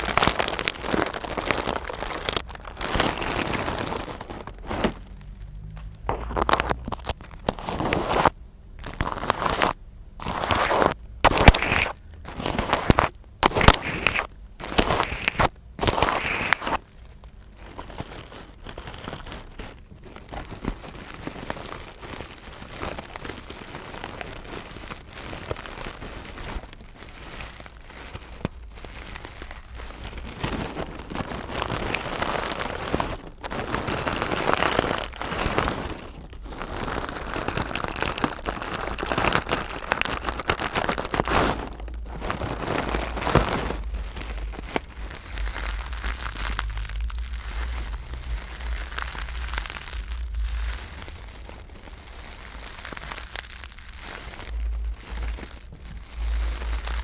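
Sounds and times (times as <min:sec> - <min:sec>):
close rustling and scratching: 0:00.0 - 0:57.0.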